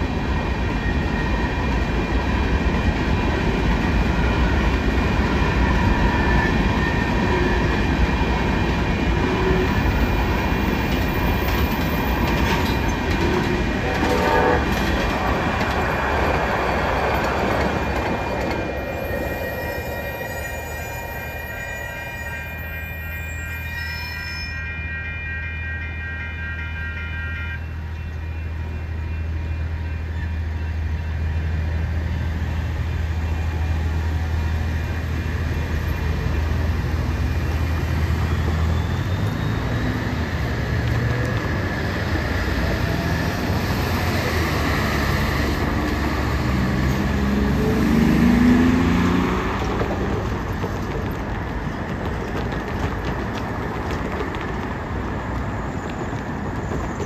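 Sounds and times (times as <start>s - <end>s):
train rumble: 0.0s - 23.8s, 24.4s - 57.0s
road traffic crossing tracks: 0.0s - 57.0s
train wheel squeal: 0.4s - 2.1s, 4.1s - 15.0s, 17.1s - 57.0s.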